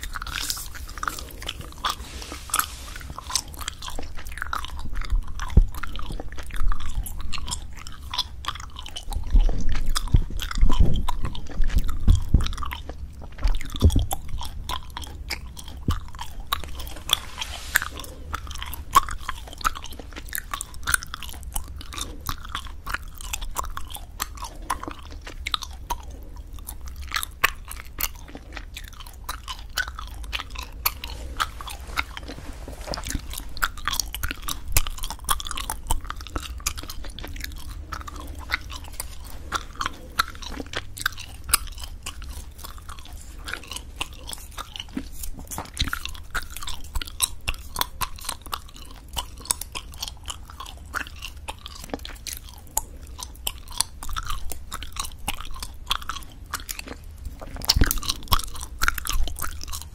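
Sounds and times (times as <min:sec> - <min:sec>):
gum chewing and snapping: 0:00.0 - 0:59.9.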